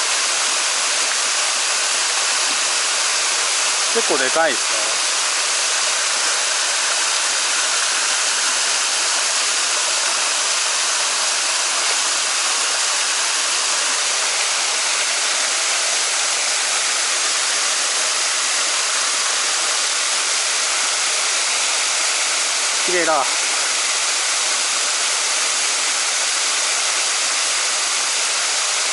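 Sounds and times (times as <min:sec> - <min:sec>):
mountain stream rushing: 0:00.0 - 0:28.9.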